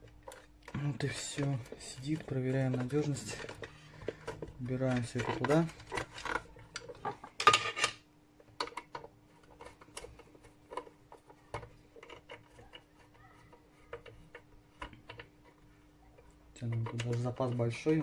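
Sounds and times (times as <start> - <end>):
cable handled against metal plate: 0.0 - 8.0, 8.6 - 18.0.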